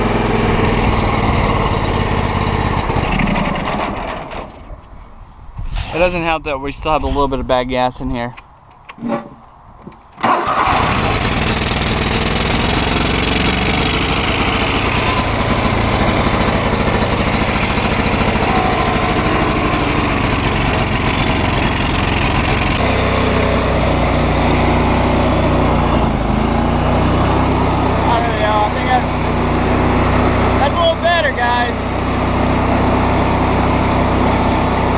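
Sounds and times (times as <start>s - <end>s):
lawn tractor engine running: 0.0s - 4.9s, 10.2s - 34.9s.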